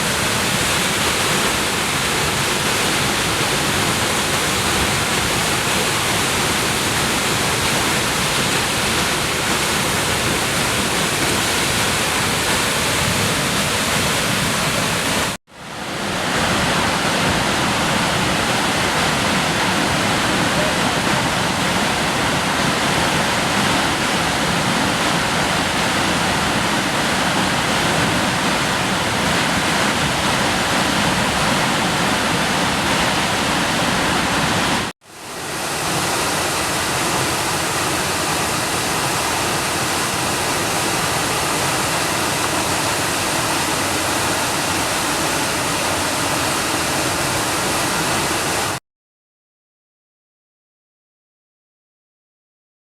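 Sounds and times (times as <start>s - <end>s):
waterfall rushing: 0.0s - 48.8s.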